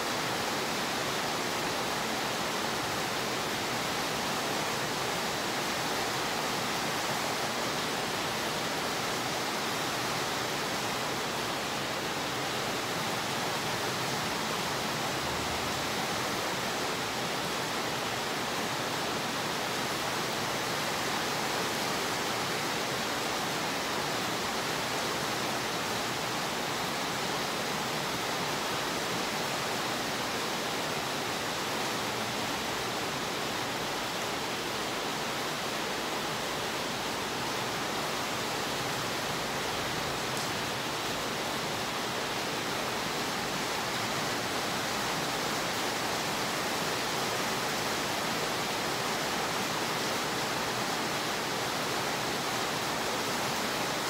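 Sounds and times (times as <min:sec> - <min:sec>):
rain on concrete: 0:00.0 - 0:54.0.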